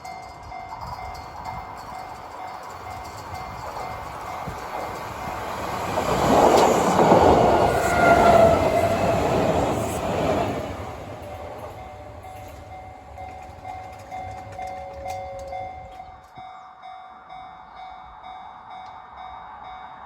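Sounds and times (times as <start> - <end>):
train rumbling past: 0.0 - 16.4.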